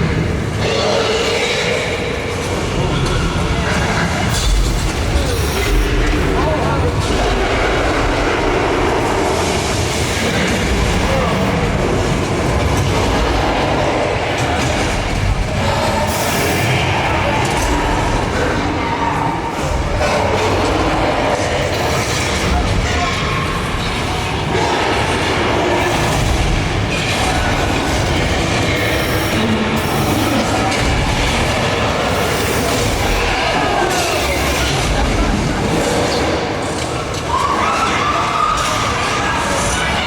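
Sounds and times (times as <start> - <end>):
tram rumbling and rattling: 0.0 - 37.3.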